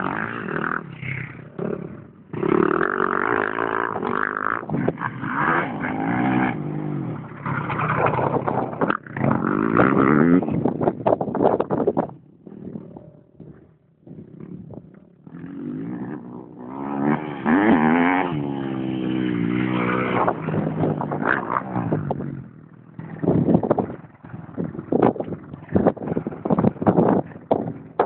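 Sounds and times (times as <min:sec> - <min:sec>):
motocross bike engines revving: 0:00.0 - 0:28.0.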